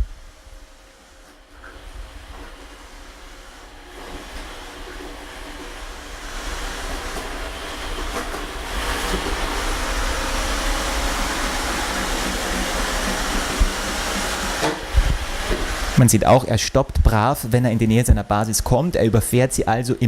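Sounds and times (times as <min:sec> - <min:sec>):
robot vacuum cleaner whirring: 0:00.0 - 0:16.2.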